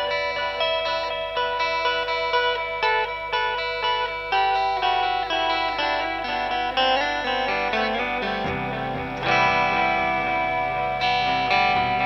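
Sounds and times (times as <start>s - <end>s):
electric guitar with delay: 0.0s - 12.0s.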